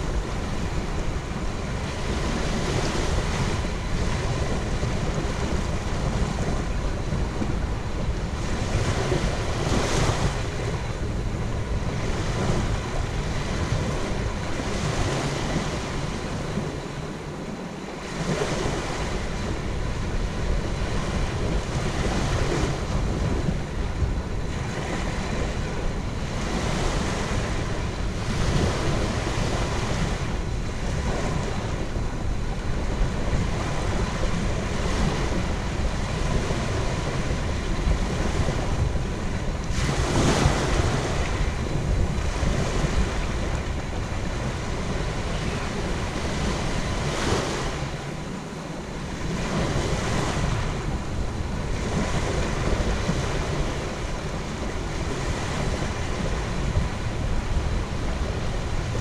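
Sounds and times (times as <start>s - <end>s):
waves breaking on a beach: 0.0s - 59.0s
wind rumble on microphone: 0.0s - 59.0s.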